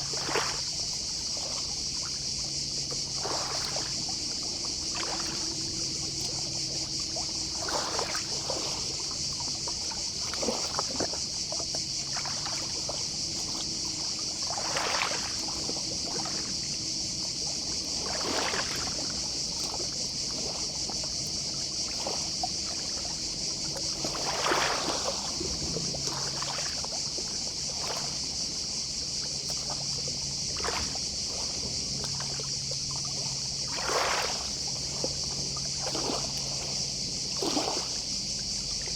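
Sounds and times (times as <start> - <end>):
distant cicadas chorus: 0.0 - 38.9
gentle sea waves washing ashore: 0.0 - 38.9.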